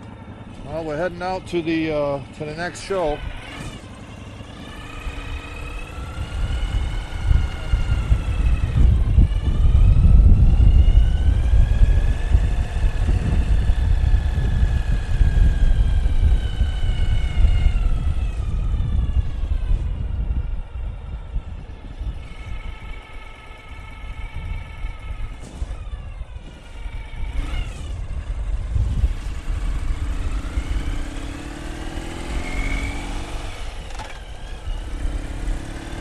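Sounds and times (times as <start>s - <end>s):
heavy low rumble: 0.0s - 31.2s
motorcycle engine pulling away: 0.0s - 36.0s.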